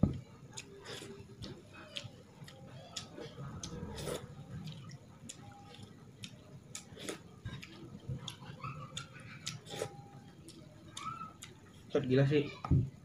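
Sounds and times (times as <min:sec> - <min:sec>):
mouth chewing wetly: 0:00.6 - 0:11.6.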